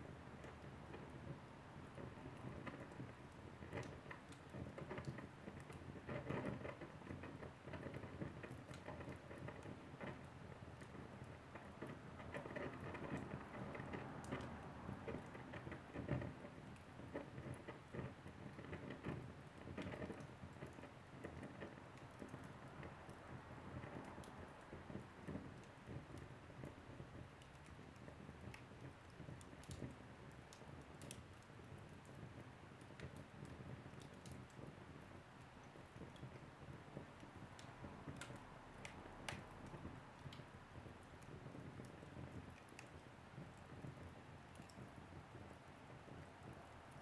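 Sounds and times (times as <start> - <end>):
low rumble of burning: 0.0 - 47.0
wood fire crackling: 0.0 - 47.0.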